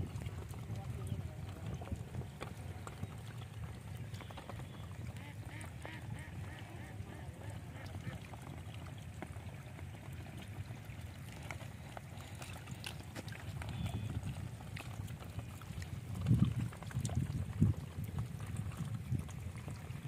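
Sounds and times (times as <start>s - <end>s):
wind rumble on microphone: 0.0s - 12.2s, 12.9s - 20.0s.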